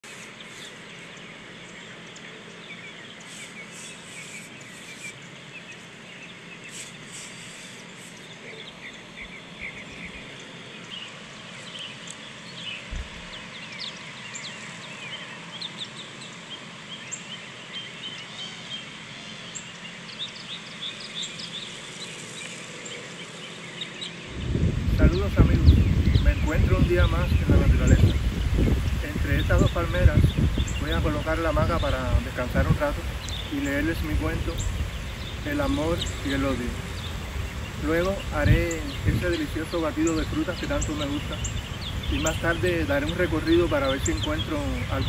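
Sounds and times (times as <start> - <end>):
small birds chirping: 0.0 - 45.0
steady background hiss: 0.0 - 45.0.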